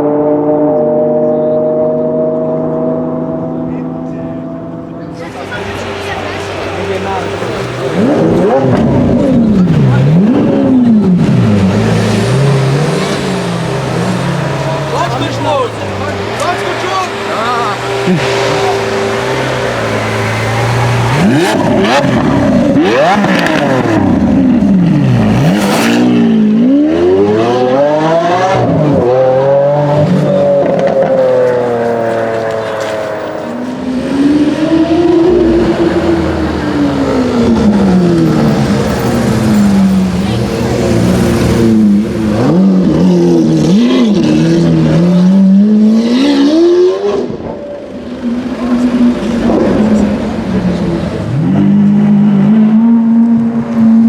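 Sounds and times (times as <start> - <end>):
sports car engine revving: 0.0 - 54.0.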